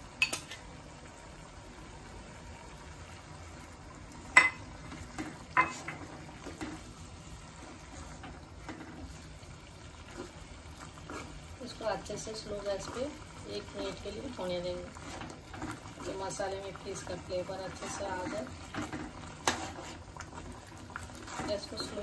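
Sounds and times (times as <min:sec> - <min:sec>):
curry gravy bubbling: 0:01.5 - 0:22.0
ladle stirring gravy: 0:04.2 - 0:22.0.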